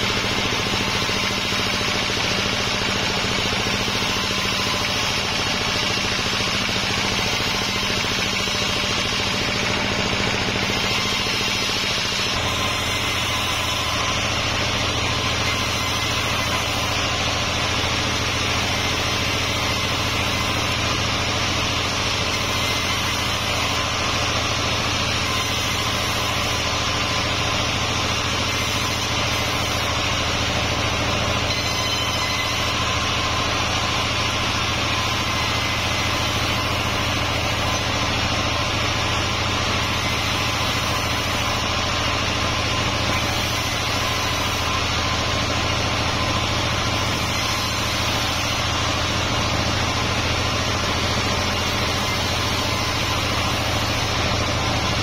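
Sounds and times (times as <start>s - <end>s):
band sawmill sawing wood: 0.0s - 55.0s.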